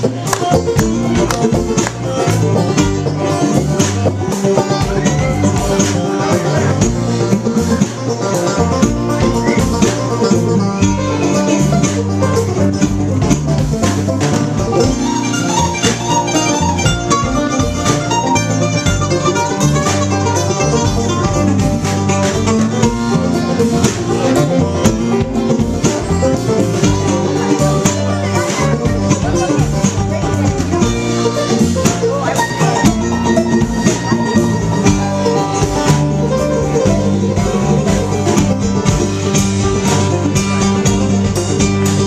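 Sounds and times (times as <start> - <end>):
bluegrass band playing: 0.0 - 42.0.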